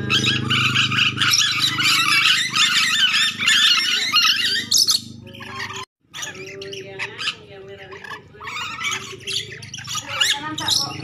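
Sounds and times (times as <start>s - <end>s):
parrot chattering screeches: 0.0s - 11.0s.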